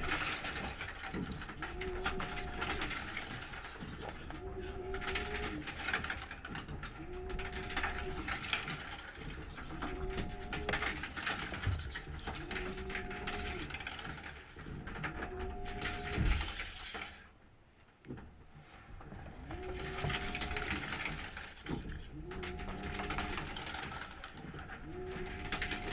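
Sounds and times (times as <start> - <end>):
washing machine motor hum: 0.0 - 16.8, 19.1 - 25.9.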